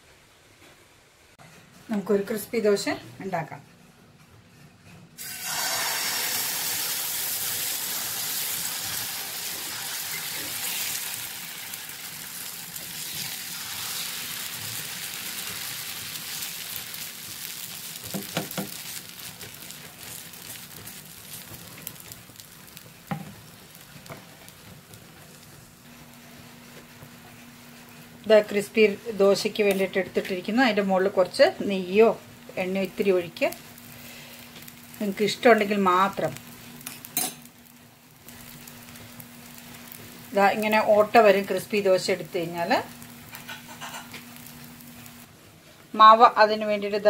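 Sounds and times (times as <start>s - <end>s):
batter sizzling on a hot pan: 5.2s - 47.0s.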